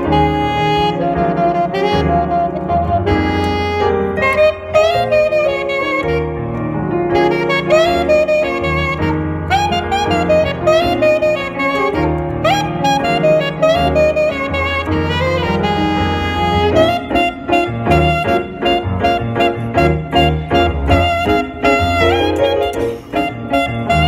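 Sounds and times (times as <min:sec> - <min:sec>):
piano chords: 0:00.0 - 0:24.0
saxophone-like lead melody: 0:00.0 - 0:24.0
steady bass line: 0:00.0 - 0:24.0.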